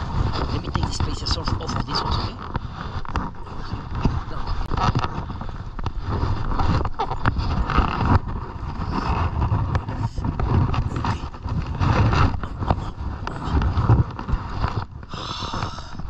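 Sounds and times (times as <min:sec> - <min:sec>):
rustling: 0:00.0 - 0:16.0
wind buffeting microphone: 0:00.0 - 0:16.0.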